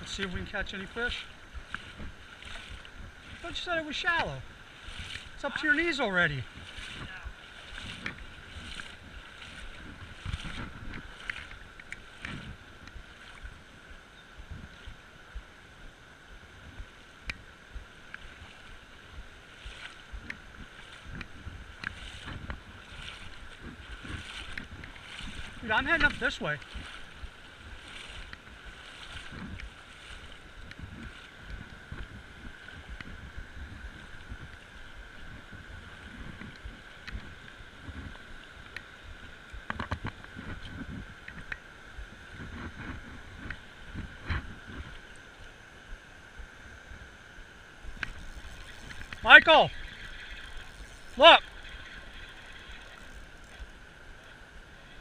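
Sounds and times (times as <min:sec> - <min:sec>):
water splashing around wading legs: 0:00.0 - 0:13.6, 0:17.4 - 0:45.7, 0:47.8 - 0:55.0
rush of flowing water: 0:00.0 - 0:55.0.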